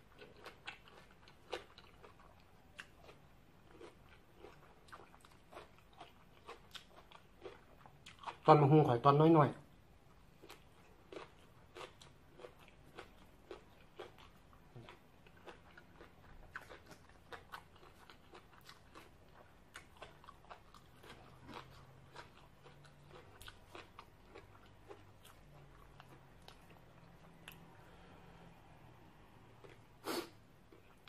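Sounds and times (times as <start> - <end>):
person chewing food: 0.0 - 8.5, 10.0 - 31.0.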